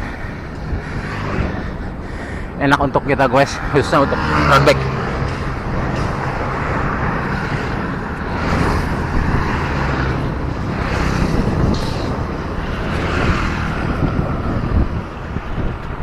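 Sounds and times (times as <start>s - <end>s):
motor vehicles passing: 0.0s - 16.0s
traffic and road noise: 0.0s - 16.0s.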